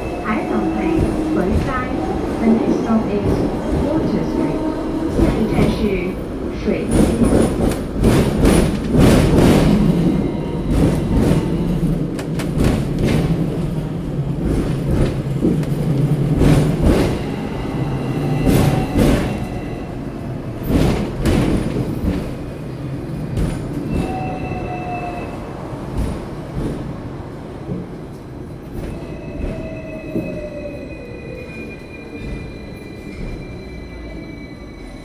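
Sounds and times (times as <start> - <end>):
tram wheels and motor rumbling: 0.0 - 35.0.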